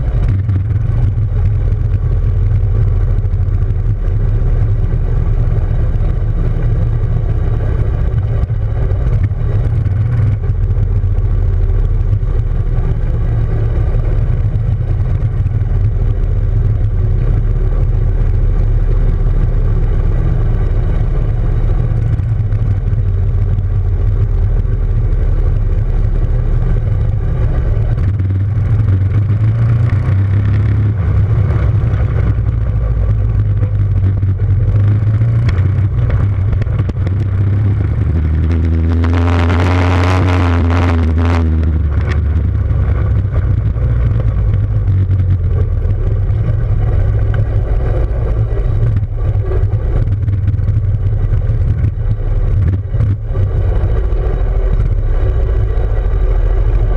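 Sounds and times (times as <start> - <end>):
small motorcycle engine running: 0.0 - 56.9.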